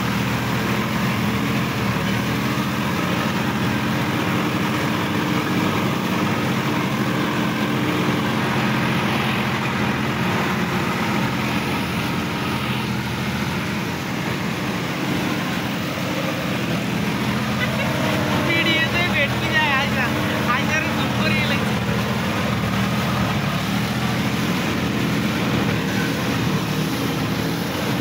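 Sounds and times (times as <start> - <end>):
tractor diesel engine running: 0.0 - 28.0
water and mud splashing: 0.0 - 28.0.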